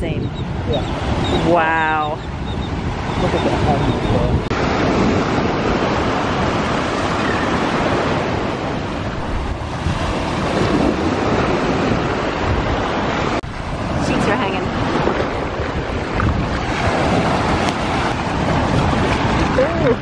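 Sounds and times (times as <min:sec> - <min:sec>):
wind on microphone: 0:00.0 - 0:20.0
waves washing over sand: 0:00.5 - 0:20.0.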